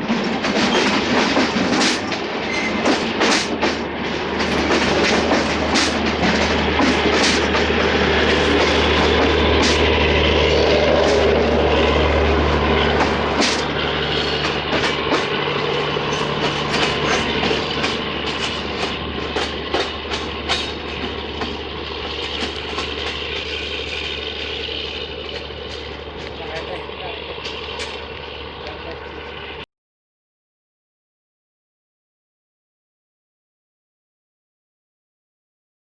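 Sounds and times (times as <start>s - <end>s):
train wheels clicking over rail joints: 0.0s - 29.4s
low diesel engine hum: 0.0s - 29.7s.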